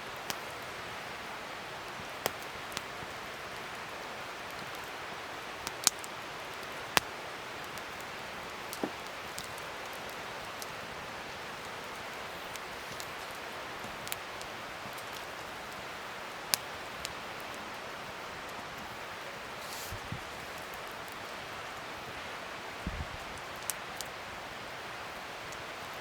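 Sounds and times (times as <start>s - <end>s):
fire crackles and pops: 0.0s - 26.0s
wood fire hissing: 0.0s - 26.0s.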